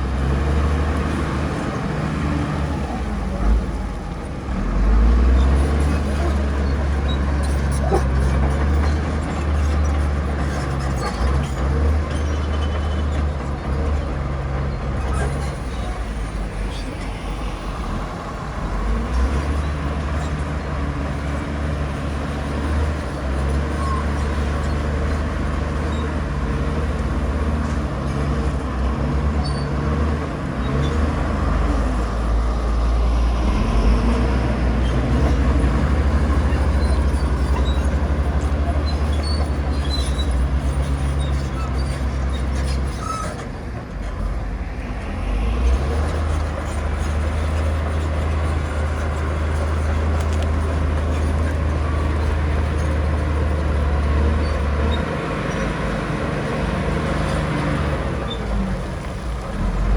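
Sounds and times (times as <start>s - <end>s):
heavy diesel machinery drone: 0.0s - 59.9s.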